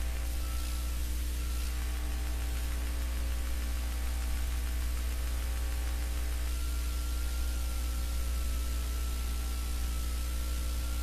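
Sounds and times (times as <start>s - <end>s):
low electrical hum: 0.0s - 11.0s
static hiss: 0.0s - 11.0s.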